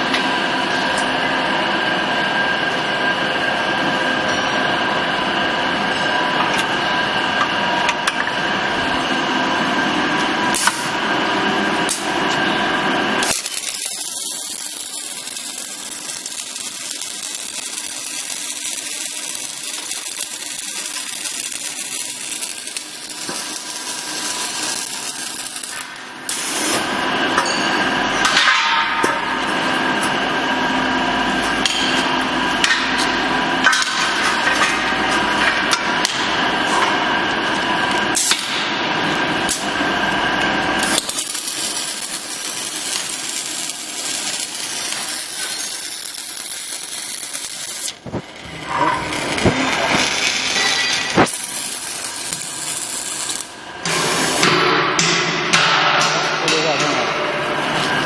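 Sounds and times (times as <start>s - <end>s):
machinery humming: 0.0s - 58.0s.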